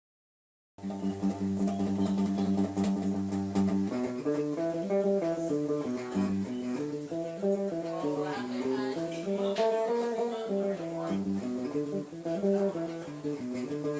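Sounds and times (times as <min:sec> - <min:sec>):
guitar playing: 0:00.8 - 0:13.9.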